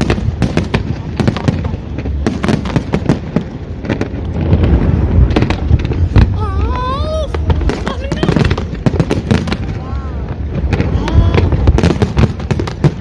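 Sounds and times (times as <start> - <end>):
deep fireworks booming: 0.0 - 13.0
fireworks bangs and crackles: 0.0 - 13.0.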